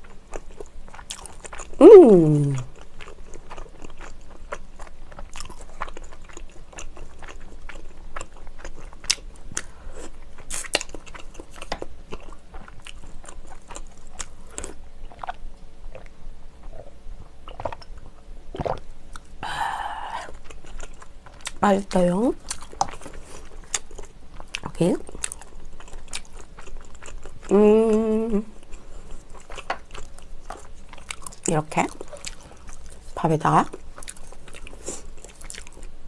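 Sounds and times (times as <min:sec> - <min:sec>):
mouth chewing and crunching: 0:00.0 - 0:19.4, 0:20.2 - 0:36.0.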